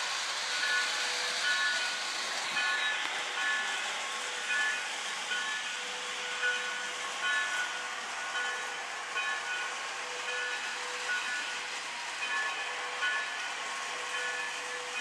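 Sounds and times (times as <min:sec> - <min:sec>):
toy train hissing on track: 0:00.0 - 0:15.0.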